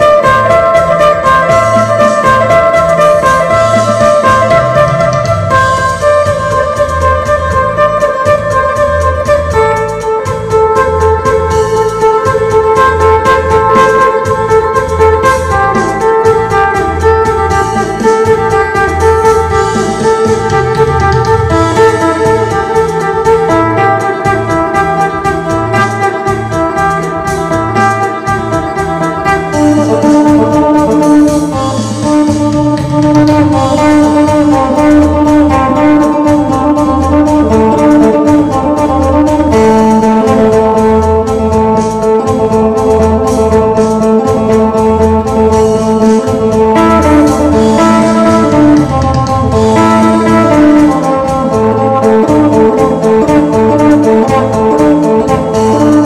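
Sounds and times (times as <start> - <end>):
bass and drum beat: 0.0 - 56.0
lute melody: 0.0 - 56.0.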